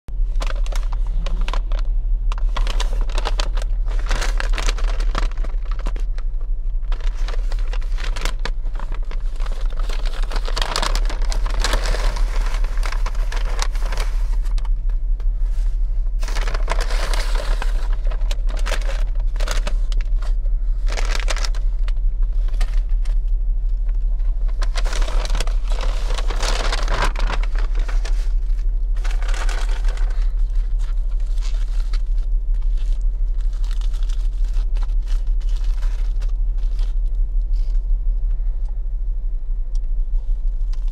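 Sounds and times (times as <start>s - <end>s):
steady low hum: 0.1s - 40.9s
foil wrapper crinkling: 0.2s - 38.0s.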